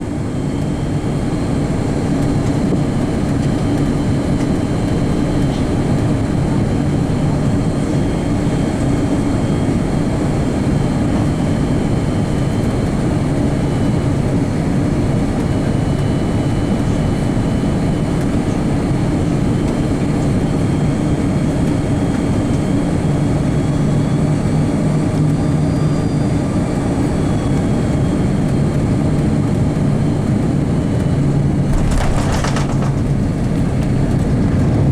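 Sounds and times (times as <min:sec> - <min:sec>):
low engine hum: 0:00.0 - 0:34.9.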